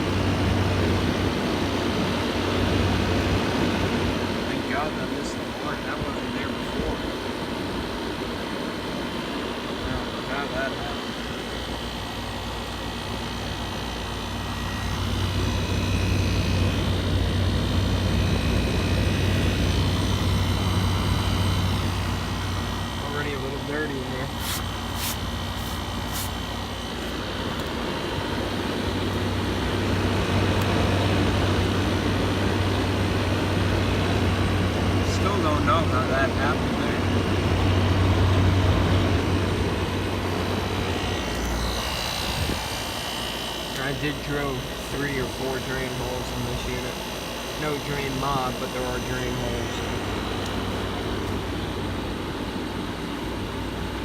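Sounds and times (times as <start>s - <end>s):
compressor hum: 0.0s - 54.0s
condenser fan whirring: 0.0s - 54.0s.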